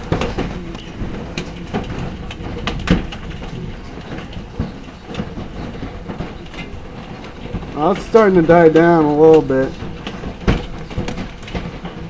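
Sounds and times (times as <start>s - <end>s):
hailstones knocking: 0.0s - 12.0s.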